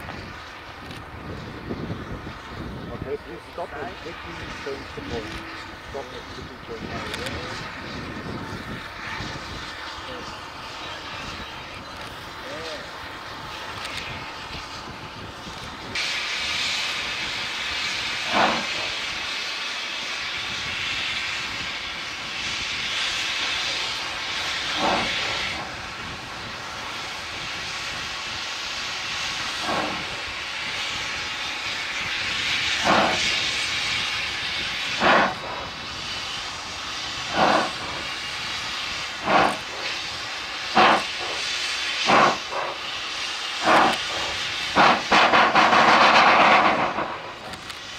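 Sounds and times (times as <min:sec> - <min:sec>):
locomotive exhaust chuffs: 0:00.0 - 0:47.9
steam locomotive hissing: 0:00.0 - 0:47.9.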